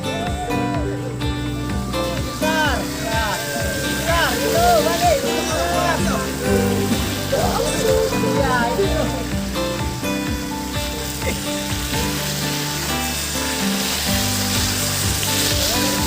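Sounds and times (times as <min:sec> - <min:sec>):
music with held chords: 0:00.0 - 0:16.0
rushing river water: 0:00.0 - 0:16.0.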